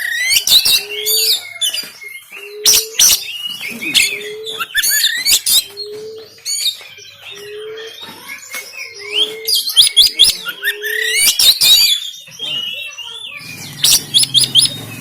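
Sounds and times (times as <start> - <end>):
bird singing whistles and chatter: 0.0 - 15.0.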